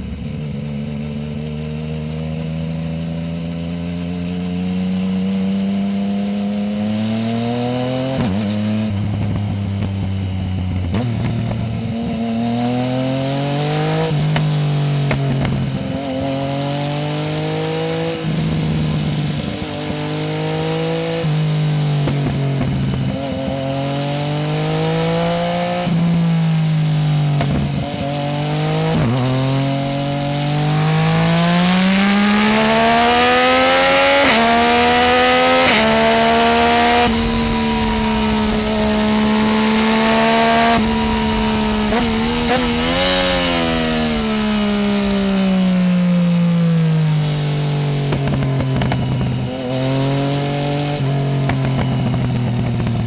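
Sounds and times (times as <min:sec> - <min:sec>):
motorcycle engine while riding: 0:00.0 - 0:53.0.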